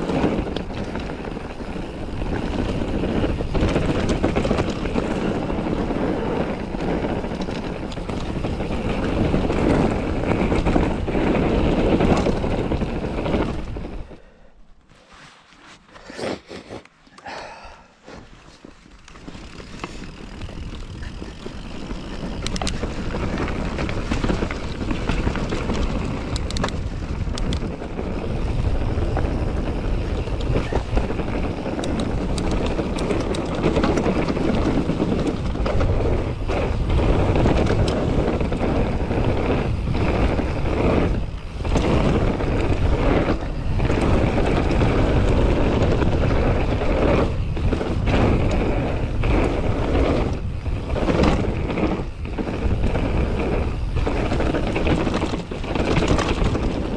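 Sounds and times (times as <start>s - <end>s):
bike clicks and knocks: 0.0s - 13.9s, 18.1s - 56.9s
wind buffeting microphone: 0.0s - 14.2s, 19.3s - 56.9s
bike tyres rumbling over trail: 0.0s - 16.6s, 17.2s - 56.9s.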